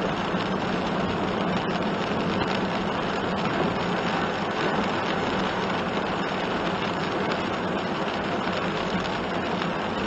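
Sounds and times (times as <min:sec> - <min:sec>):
engine hum: 0:00.0 - 0:10.0
tyre hiss on wet road: 0:00.0 - 0:10.0.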